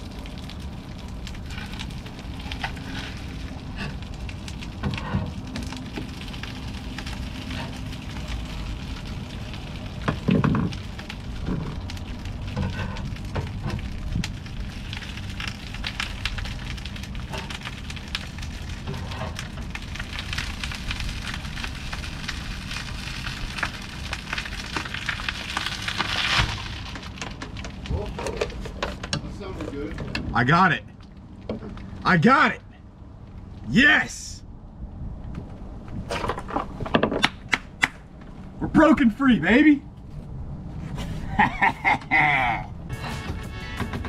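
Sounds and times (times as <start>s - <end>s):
rain pattering: 0.0s - 34.3s, 41.2s - 44.0s
foam crackling and popping: 0.0s - 34.4s, 35.2s - 44.0s.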